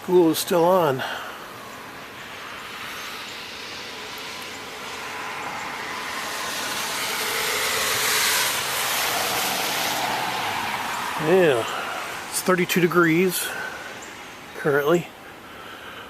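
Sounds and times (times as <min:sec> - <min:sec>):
tyres hissing on wet road: 0:00.0 - 0:16.0.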